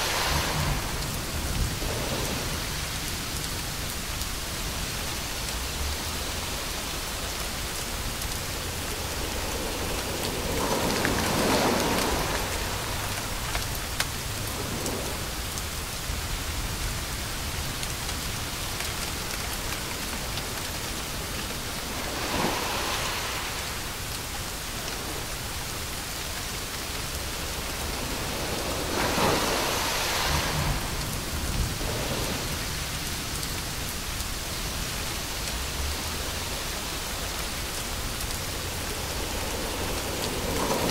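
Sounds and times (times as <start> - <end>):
rain-like white noise hiss: 0.0 - 40.9.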